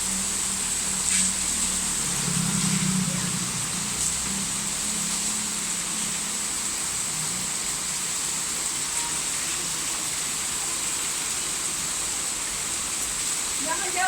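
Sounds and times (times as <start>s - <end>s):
heavy rain downpour: 0.0s - 14.0s.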